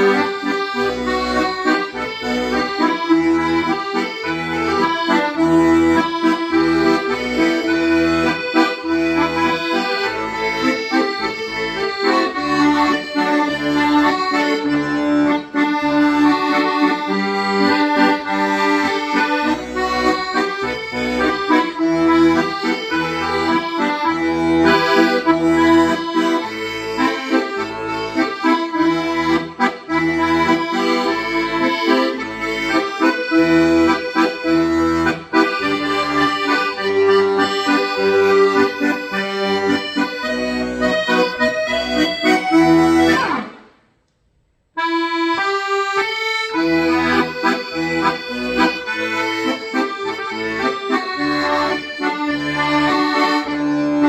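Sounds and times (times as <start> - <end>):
pulsing bass accompaniment: 0.0 - 43.5
accordion melody: 0.0 - 54.0.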